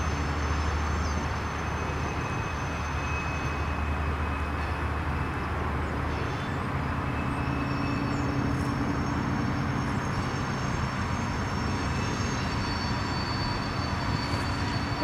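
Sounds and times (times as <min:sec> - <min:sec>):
freight train cars rumbling: 0:00.0 - 0:15.0.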